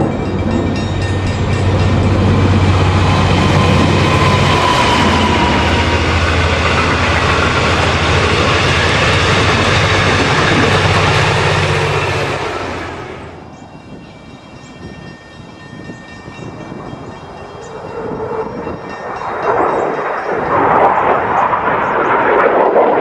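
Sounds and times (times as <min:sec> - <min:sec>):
train wheels rumbling on rails: 0:00.0 - 0:21.5
diesel locomotive drone: 0:00.0 - 0:23.0.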